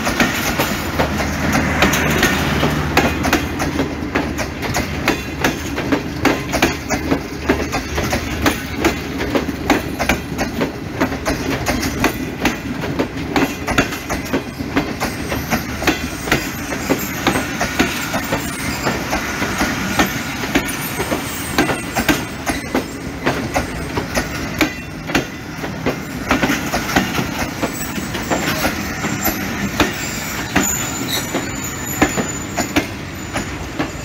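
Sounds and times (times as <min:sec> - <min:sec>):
train wheels clattering over joints: 0:00.0 - 0:34.0.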